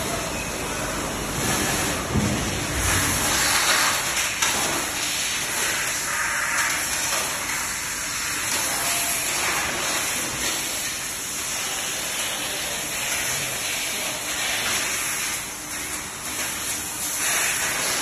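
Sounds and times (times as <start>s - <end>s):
high-pressure water spray hiss: 0.9s - 18.0s.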